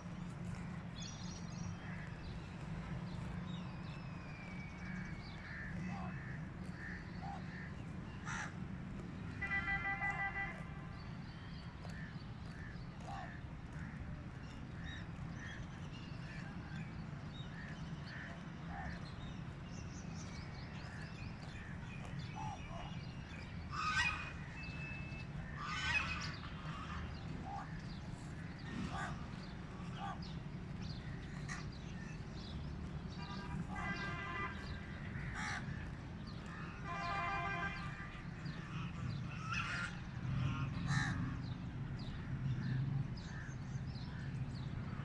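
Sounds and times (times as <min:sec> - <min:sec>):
birds calling: 0:00.0 - 0:45.0.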